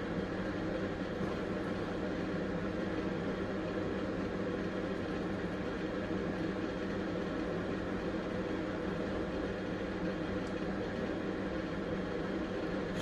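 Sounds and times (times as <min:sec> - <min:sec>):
droning background hum: 0:00.0 - 0:13.0.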